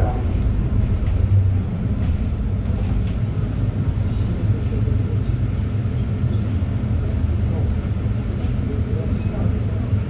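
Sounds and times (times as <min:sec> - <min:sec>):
bus engine low rumble: 0:00.0 - 0:10.0.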